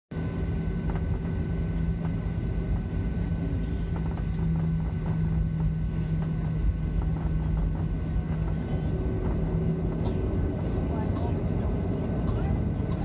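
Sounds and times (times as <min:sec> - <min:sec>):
low cabin rumble: 0:00.1 - 0:13.0
jet engines droning: 0:00.2 - 0:13.0.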